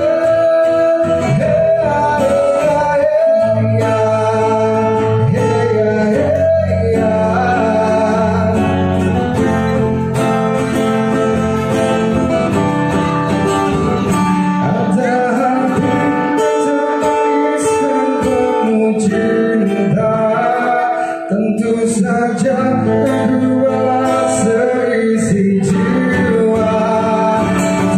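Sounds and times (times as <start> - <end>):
man singing into a microphone: 0.0 - 11.4, 14.0 - 27.9
acoustic guitar: 0.0 - 27.9.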